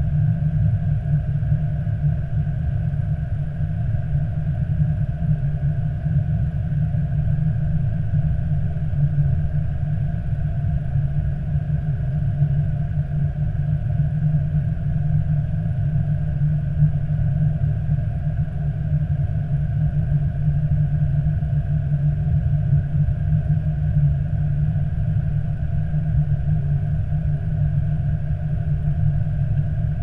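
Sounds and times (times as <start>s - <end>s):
cockpit low rumble: 0.0s - 30.0s
faint steady hum: 0.0s - 30.0s.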